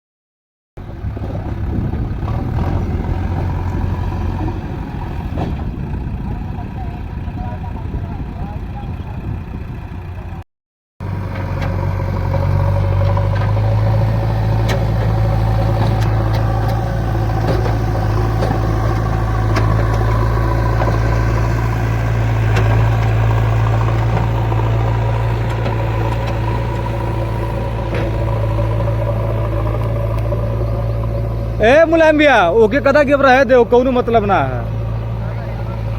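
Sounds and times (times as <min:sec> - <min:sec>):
diesel engine running: 0:00.8 - 0:10.4, 0:11.0 - 0:35.9.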